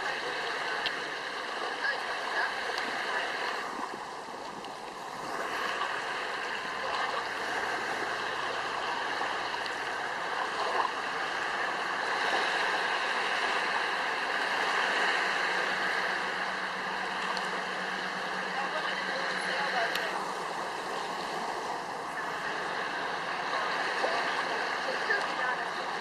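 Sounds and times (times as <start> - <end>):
water rushing: 0.0 - 26.0.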